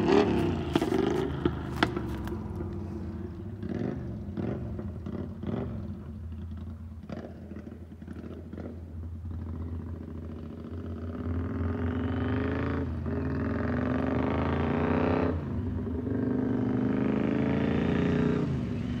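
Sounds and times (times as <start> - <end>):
motorcycle accelerating: 0.0 - 19.0.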